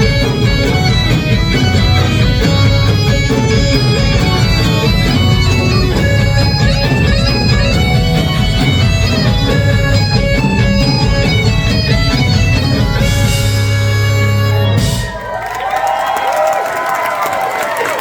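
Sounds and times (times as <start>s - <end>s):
live rock band playing: 0.0s - 15.7s.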